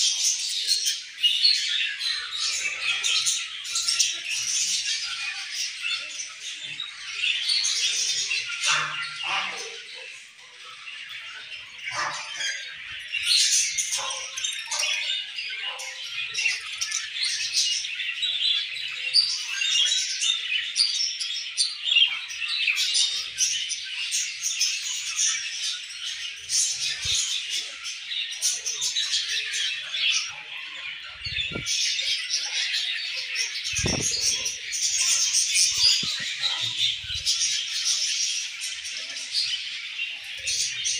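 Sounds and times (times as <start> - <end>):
budgerigars chattering: 0.0 - 17.6, 18.3 - 40.9.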